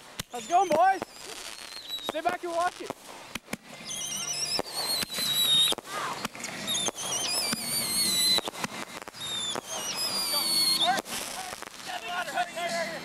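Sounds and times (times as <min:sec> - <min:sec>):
fireworks banging: 0:00.0 - 0:13.0
whistling fireworks falling in pitch: 0:00.0 - 0:13.0.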